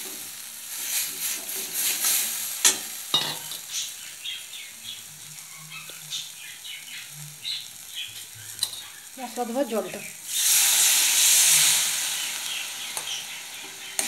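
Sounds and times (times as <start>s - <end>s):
spice paste sizzling in oil: 0.0s - 14.0s.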